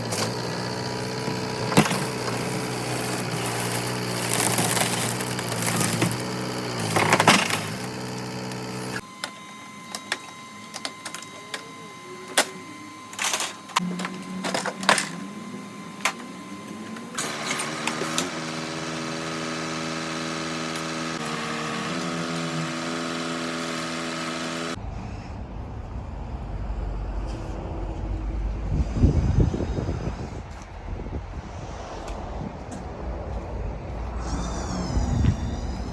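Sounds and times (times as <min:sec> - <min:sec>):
machine running: 0:00.0 - 0:30.8, 0:33.1 - 0:35.9.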